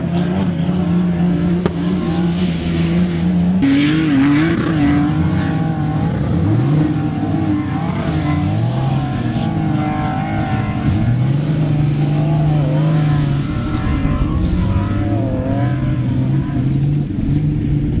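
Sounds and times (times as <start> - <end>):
car engine pulling hard: 0.0 - 18.0.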